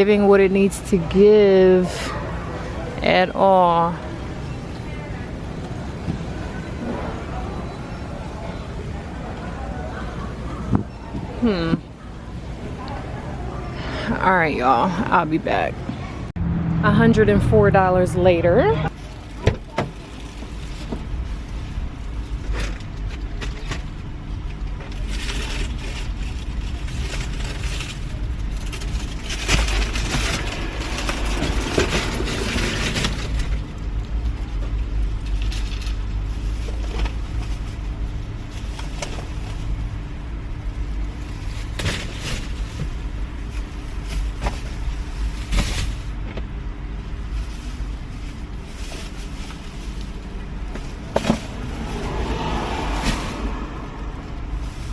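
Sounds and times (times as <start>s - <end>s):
car driving rumble: 0.0s - 54.9s.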